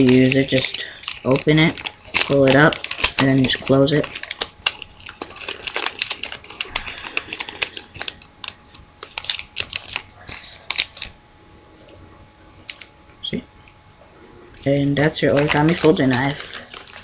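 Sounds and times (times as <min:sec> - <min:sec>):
stiff paper rustling and crinkling: 0:00.0 - 0:11.2, 0:14.5 - 0:17.0.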